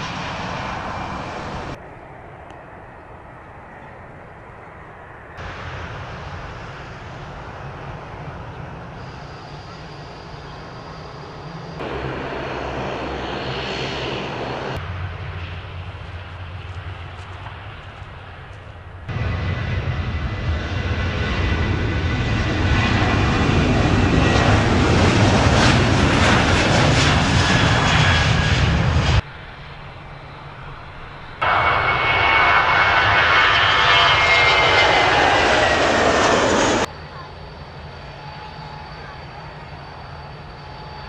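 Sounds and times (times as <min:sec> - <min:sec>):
airliner engines roaring: 0:00.0 - 0:41.0.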